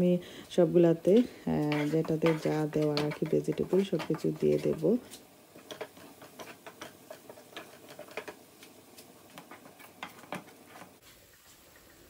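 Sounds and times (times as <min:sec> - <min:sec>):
faint clicks and taps at stove: 0:01.2 - 0:10.9.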